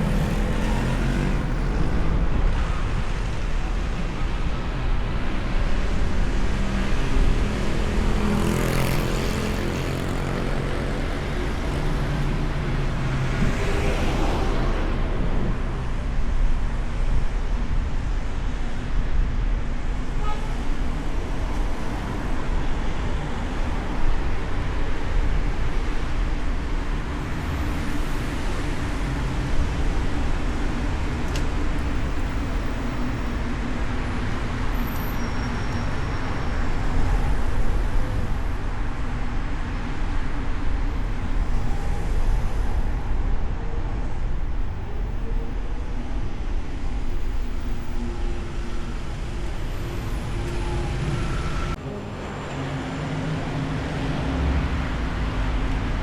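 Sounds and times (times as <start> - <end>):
car tyre and engine noise: 0.0 - 56.0
surrounding traffic: 0.0 - 56.0.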